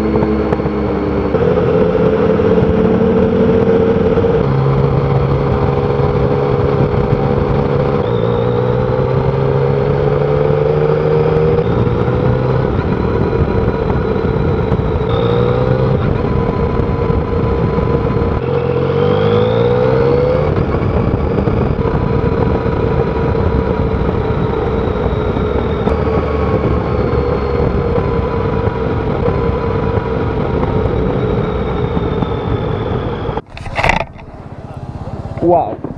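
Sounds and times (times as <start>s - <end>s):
motorcycle engine running: 0.0s - 35.9s
wind and road noise: 0.0s - 35.9s.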